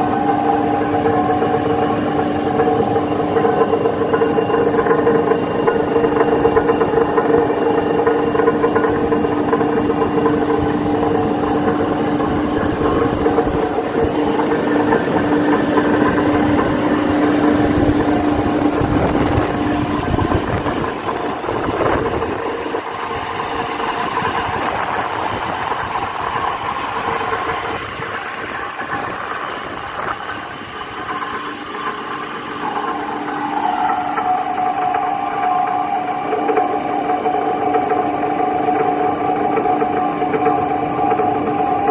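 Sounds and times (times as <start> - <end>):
gearbox whine: 0.0 - 41.9
mechanical rattle: 0.0 - 41.9.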